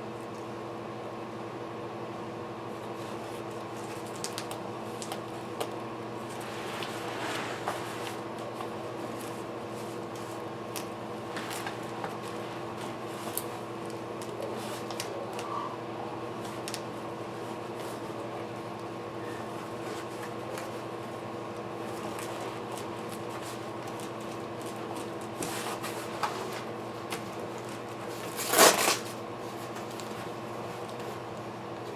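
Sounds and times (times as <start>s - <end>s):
steady mechanical hum: 0.0s - 31.9s.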